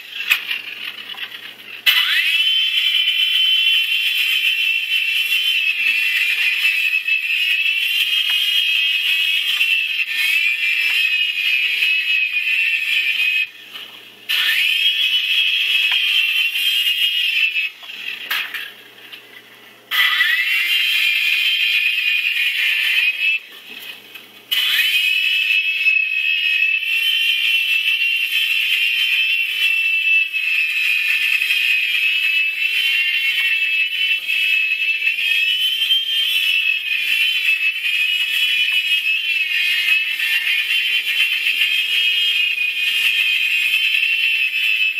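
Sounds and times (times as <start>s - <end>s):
toy helicopter motors whining: 0.0s - 13.6s, 14.3s - 19.0s, 19.9s - 23.8s, 24.5s - 44.9s.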